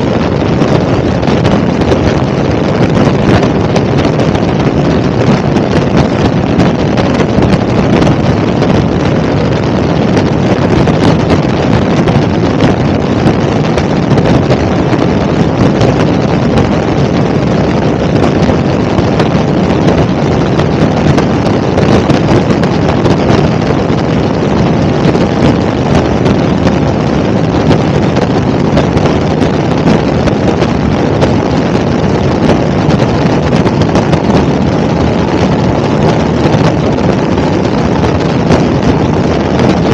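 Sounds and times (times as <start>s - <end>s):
helicopter drone: 0.0s - 37.2s
wind noise on microphone: 0.0s - 39.9s.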